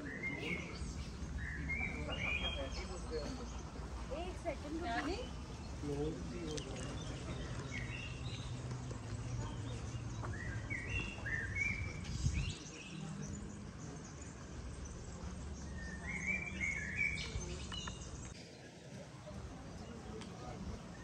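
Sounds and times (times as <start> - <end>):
low outdoor hum: 0.0 - 21.0
small birds chirping: 0.0 - 21.0.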